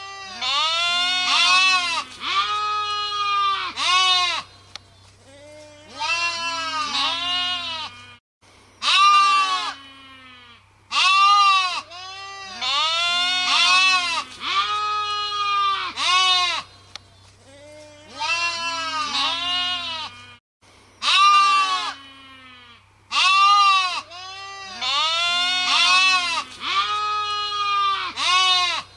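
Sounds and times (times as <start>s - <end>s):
sheep bleating: 0.0s - 4.5s, 5.3s - 8.2s, 8.8s - 16.7s, 17.5s - 20.4s, 21.0s - 28.9s.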